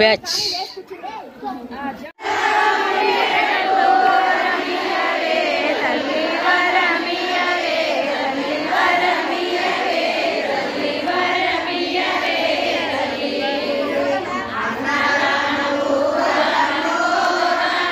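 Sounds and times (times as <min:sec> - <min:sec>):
women singing in unison: 0:02.2 - 0:17.9.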